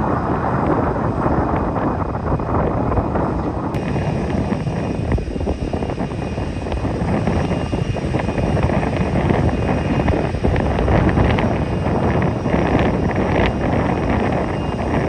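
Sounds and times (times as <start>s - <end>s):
faint high whine: 0.0s - 15.0s
jet engines running: 0.0s - 15.0s
wind buffeting microphone: 0.0s - 15.0s.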